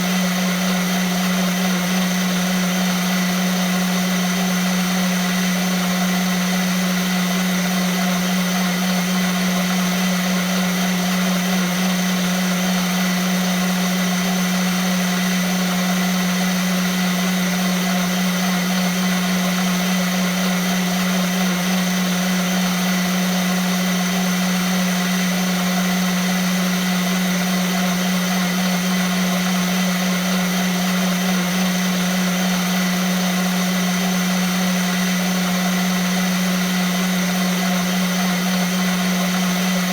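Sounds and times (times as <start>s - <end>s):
blender motor running: 0.0s - 39.9s.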